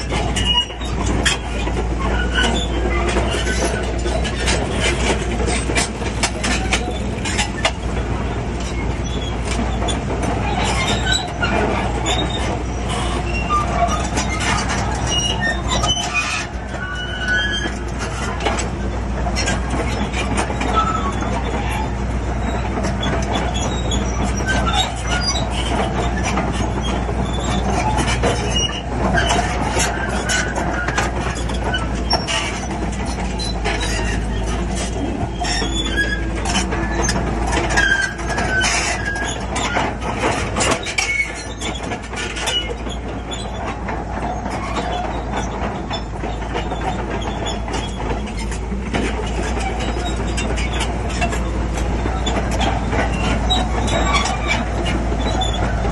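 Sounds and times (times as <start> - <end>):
bulldozer diesel engine running: 0.0 - 55.9
steel tracks clanking: 0.0 - 55.9
steel tracks squealing: 0.0 - 55.9.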